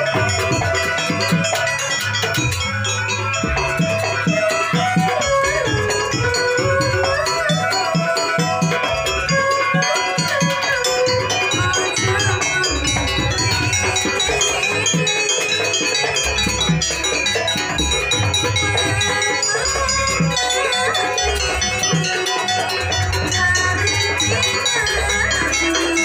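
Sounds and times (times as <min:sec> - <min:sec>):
wavering melody line: 0:00.0 - 0:26.0.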